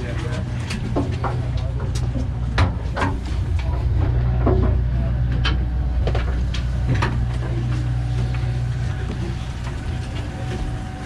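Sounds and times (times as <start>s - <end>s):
scattered clicks and knocks: 0.0s - 10.7s
boat engine humming: 0.0s - 11.0s.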